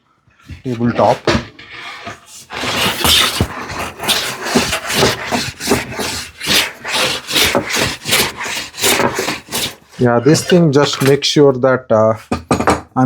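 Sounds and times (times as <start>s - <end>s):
hand plane rasping on wood: 0.6s - 11.2s.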